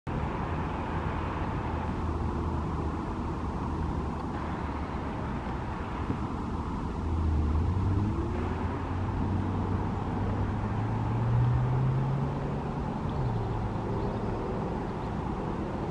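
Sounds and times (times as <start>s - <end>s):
road traffic rumble: 0.1s - 15.9s
vehicle passing: 0.1s - 15.9s.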